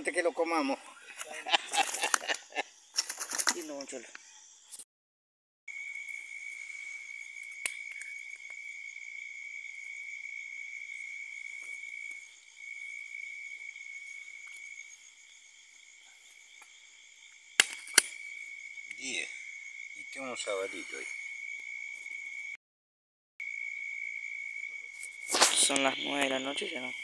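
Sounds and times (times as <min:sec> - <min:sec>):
night insects chirring: 0:00.0 - 0:04.8, 0:05.7 - 0:22.6, 0:23.4 - 0:27.0.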